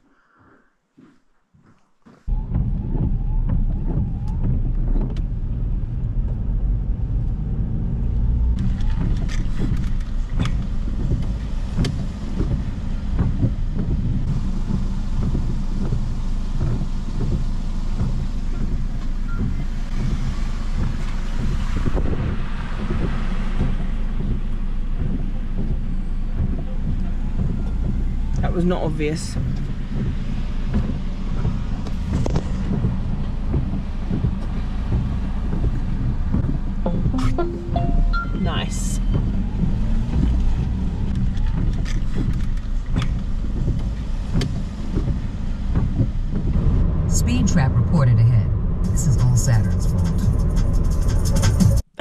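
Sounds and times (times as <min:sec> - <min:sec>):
engine and road rumble: 0:00.8 - 0:52.0.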